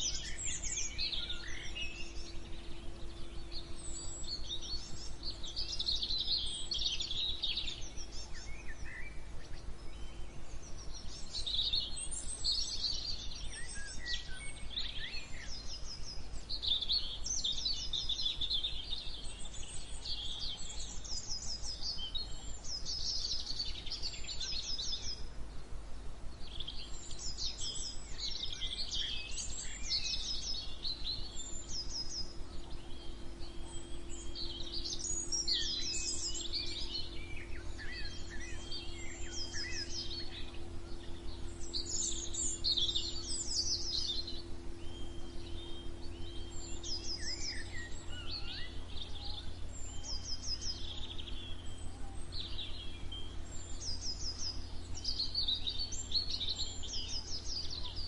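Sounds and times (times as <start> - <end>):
faint low hum: 0.0 - 58.0
songbirds chirping and singing: 0.0 - 58.0.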